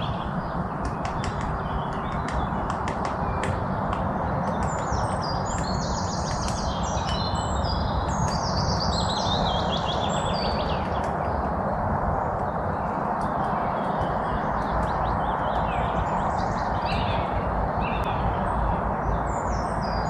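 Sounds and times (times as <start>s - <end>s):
songbirds chirping: 0.0s - 20.0s
steady rushing noise: 0.0s - 20.0s.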